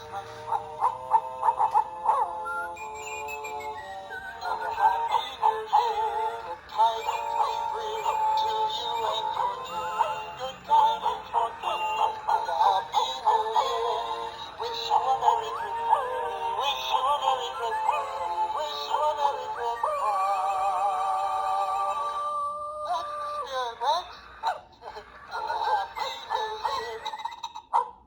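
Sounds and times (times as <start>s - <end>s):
toy singing in electronic voices: 0.0s - 27.8s.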